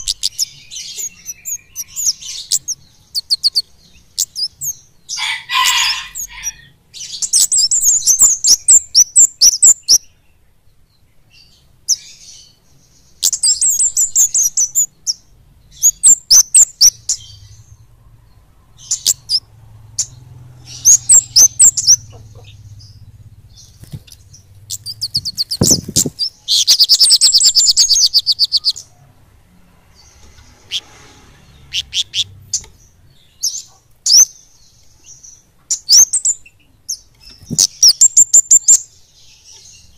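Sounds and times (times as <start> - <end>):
birds twittering trills: 0.0 - 39.9.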